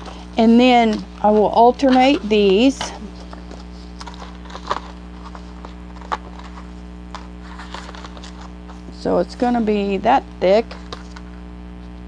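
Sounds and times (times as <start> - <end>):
paper pages rustling: 0.0 - 9.8, 10.6 - 12.0
electrical mains hum: 0.0 - 12.0.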